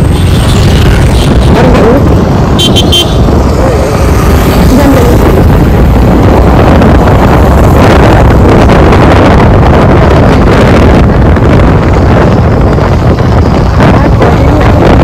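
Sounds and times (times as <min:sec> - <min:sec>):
road traffic: 0:00.0 - 0:15.0
wind buffeting microphone: 0:00.0 - 0:15.0.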